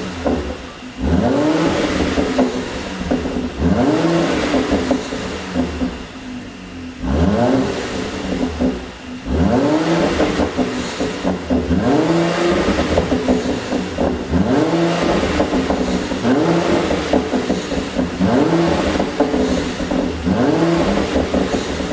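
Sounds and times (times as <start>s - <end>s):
car engine revving: 0.0s - 21.9s
exhaust popping and crackling: 0.0s - 21.9s.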